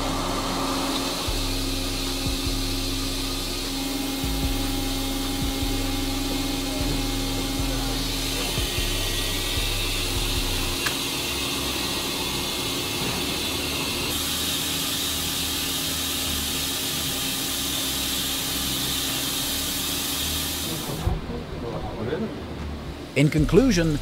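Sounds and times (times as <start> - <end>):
continuous machinery hiss: 0.0 - 24.0
low machine hum: 0.0 - 24.0.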